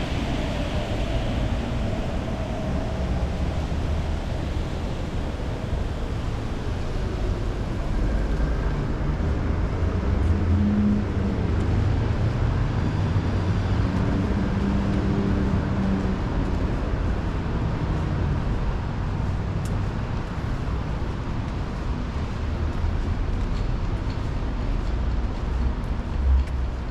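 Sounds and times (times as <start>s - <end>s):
low rumble of traffic: 0.0s - 26.9s.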